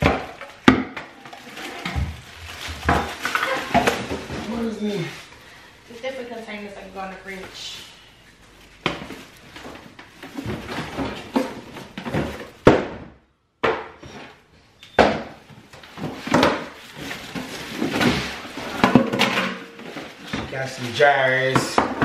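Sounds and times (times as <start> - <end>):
plastic containers clattering: 0.0 - 5.1, 8.8 - 22.0
plastic wrapping rustling: 0.0 - 12.8, 15.4 - 22.0.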